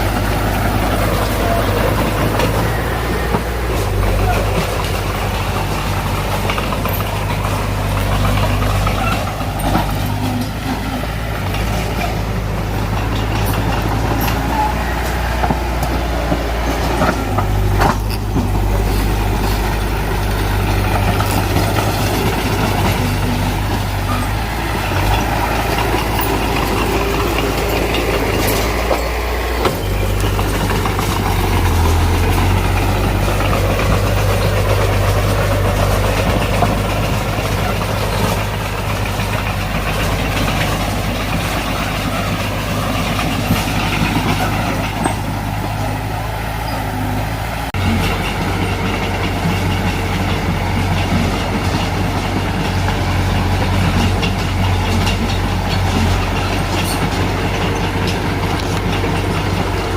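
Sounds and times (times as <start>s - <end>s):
heavy diesel engine running: 0.0s - 59.9s
sharp metallic clanks: 0.9s - 59.9s.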